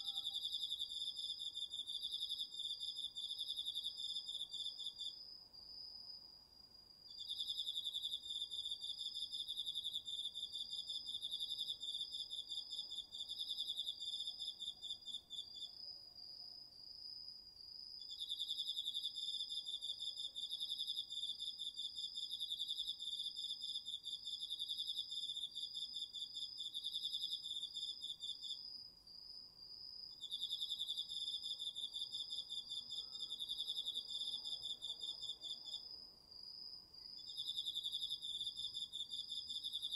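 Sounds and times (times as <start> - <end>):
steady high insect trill: 0.0 - 39.9.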